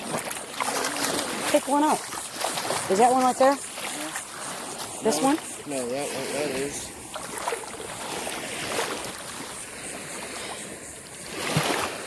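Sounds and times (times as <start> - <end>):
small water splashes: 0.0 - 12.0
surf lapping at the shoreline: 0.0 - 12.0.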